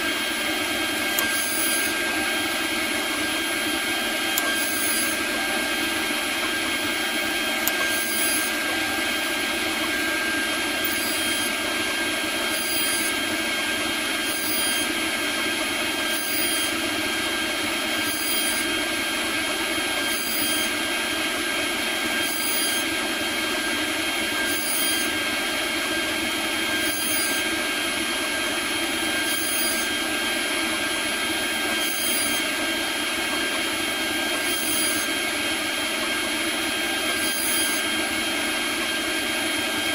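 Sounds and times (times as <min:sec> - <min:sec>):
cnc router spindle whining: 0:00.0 - 0:39.9
end mill cutting plastic: 0:00.0 - 0:39.9.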